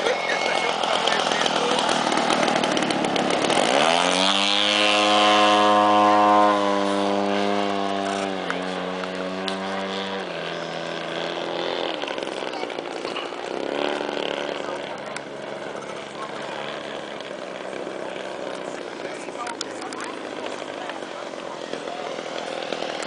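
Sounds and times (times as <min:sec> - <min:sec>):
model airplane engine buzzing: 0:00.0 - 0:23.0.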